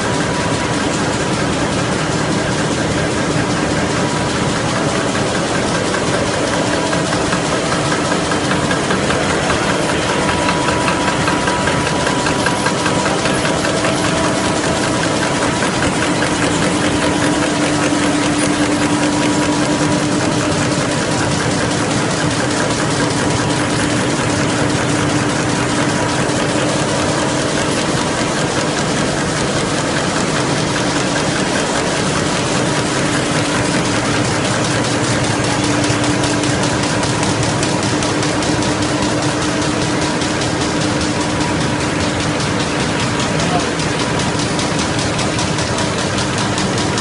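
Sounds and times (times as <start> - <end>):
folding machine clattering: 0.0 - 47.0
low machine hum: 0.0 - 47.0.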